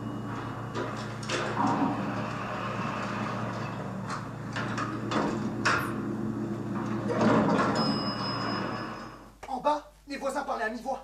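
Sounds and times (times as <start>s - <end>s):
low machine hum: 0.0s - 9.4s.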